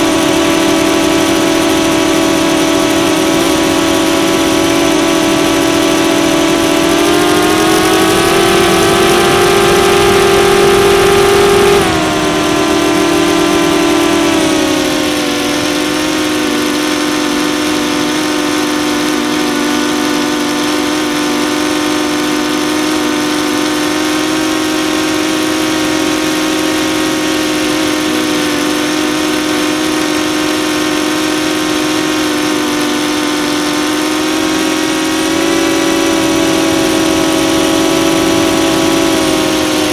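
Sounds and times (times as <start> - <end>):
drone motors and propellers buzzing: 0.0 - 39.9.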